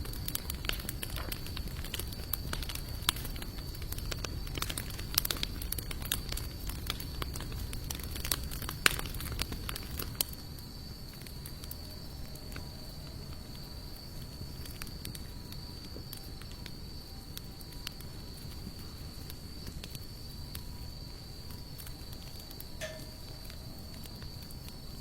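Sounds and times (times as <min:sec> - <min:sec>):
campfire logs crackling and popping: 0:00.0 - 0:25.0.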